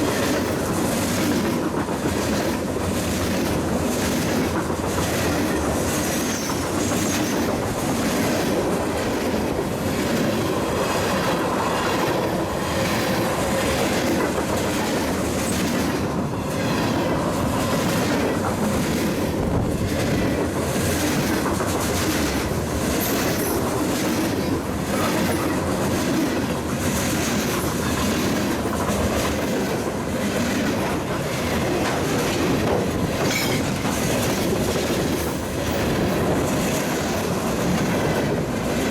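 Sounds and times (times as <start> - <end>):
train wheels clattering over rail joints: 0.0 - 38.9.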